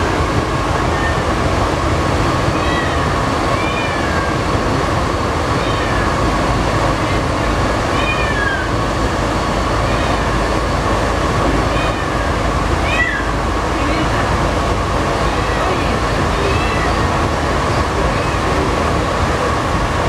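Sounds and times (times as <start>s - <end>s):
metro train rumbling: 0.0s - 20.0s.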